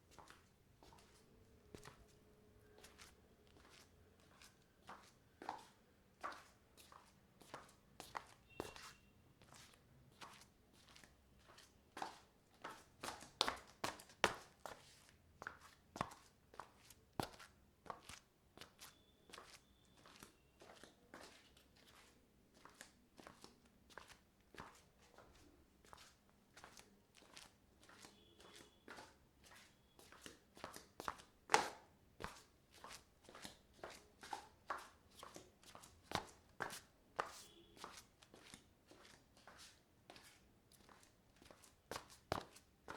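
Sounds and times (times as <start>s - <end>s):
slipper footsteps on marble floor: 0.0s - 42.9s.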